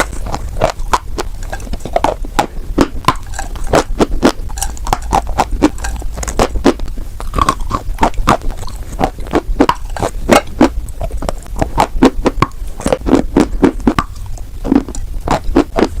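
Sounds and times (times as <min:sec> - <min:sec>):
chalk crunching while chewed: 0:00.0 - 0:16.0.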